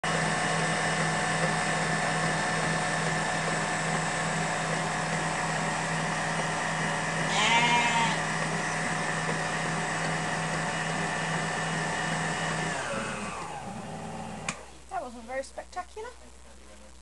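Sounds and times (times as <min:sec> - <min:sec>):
stand mixer churning cream: 0:00.0 - 0:07.3, 0:08.2 - 0:14.7.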